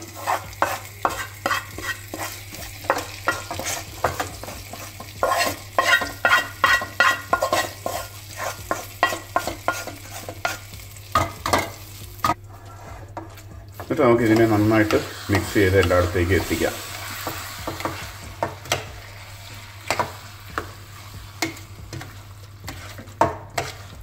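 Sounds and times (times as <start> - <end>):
wooden spatula scraping metal pan: 0.0 - 10.7, 12.2 - 18.8, 21.4 - 24.0
stirring in a pot: 0.0 - 18.9, 19.8 - 24.0.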